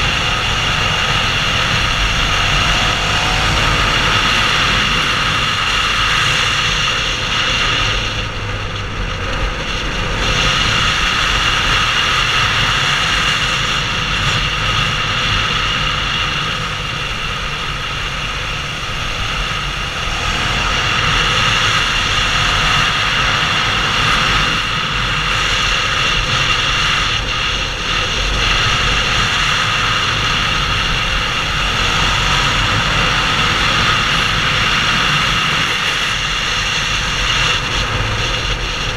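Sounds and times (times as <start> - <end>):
motorcycle engine at speed: 0.0 - 38.9
wind rushing past microphone: 0.0 - 38.9.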